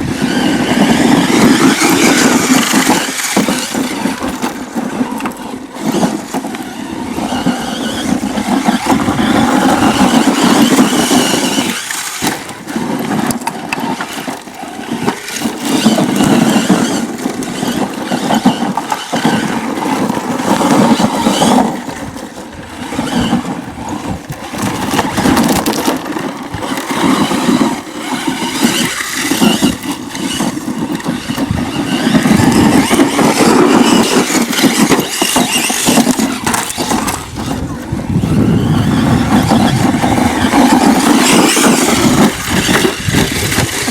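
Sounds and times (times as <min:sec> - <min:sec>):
rc truck electric motor: 0:00.0 - 0:43.9.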